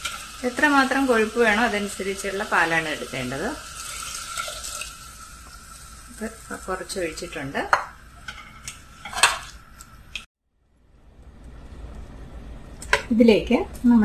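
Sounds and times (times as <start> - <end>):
low sizzle: 0.0 - 14.0.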